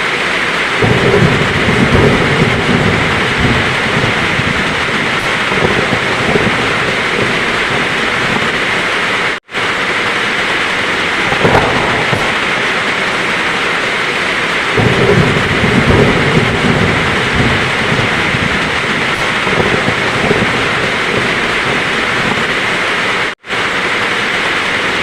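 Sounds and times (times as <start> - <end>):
heavy rain falling: 0.0 - 25.0
thunder rumbling: 0.0 - 25.0.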